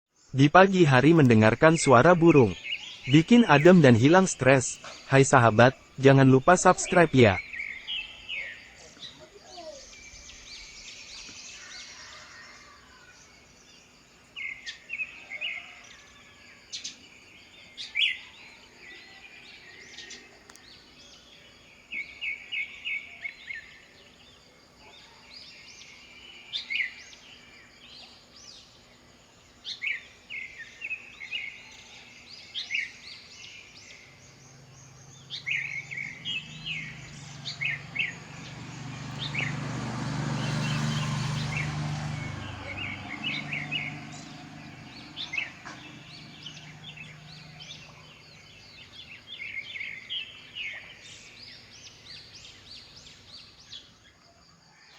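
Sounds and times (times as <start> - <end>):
songbirds chirping: 0.1 - 54.9.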